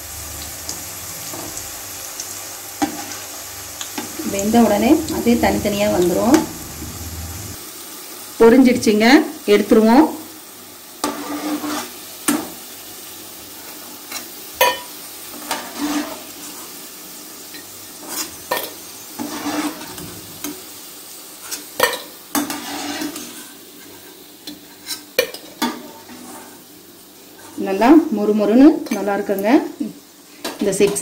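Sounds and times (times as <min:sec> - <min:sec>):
chips sizzling in hot oil: 0:00.0 - 0:31.0.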